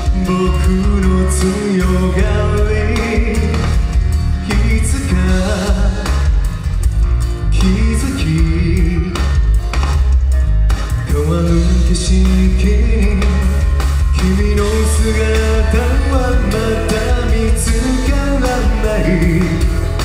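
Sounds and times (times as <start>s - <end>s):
man singing rock song live: 0.0s - 6.6s, 7.4s - 9.6s, 11.0s - 20.0s
amplified band with drums: 0.0s - 20.0s.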